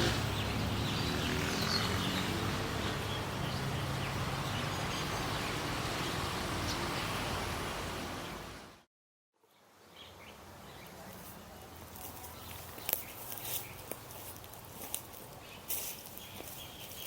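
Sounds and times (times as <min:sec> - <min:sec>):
traffic noise: 0:00.0 - 0:08.9, 0:09.6 - 0:17.0
small birds chirping: 0:00.2 - 0:07.2, 0:09.4 - 0:17.0.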